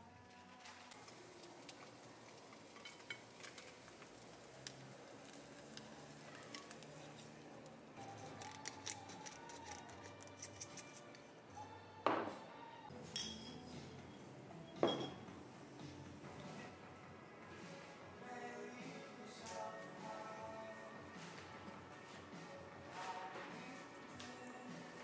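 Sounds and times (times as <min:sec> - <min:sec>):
faint soft music: 0:00.0 - 0:25.0.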